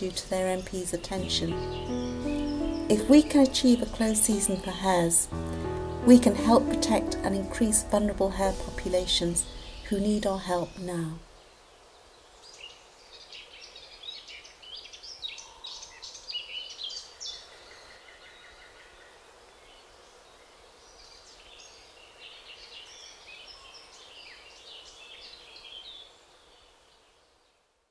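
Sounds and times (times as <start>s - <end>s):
songbird chirping and trilling: 0.0s - 27.2s
outdoor background noise: 0.0s - 27.9s.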